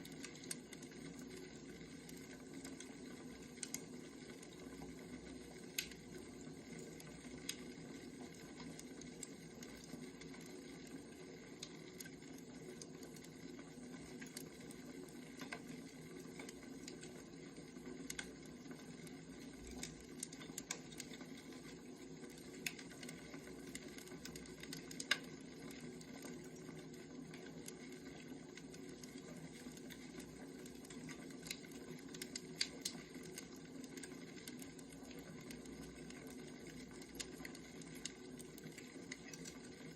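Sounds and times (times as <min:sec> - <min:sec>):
firewood crackling and popping: 0:00.0 - 0:39.9
low fire hiss: 0:00.0 - 0:39.9.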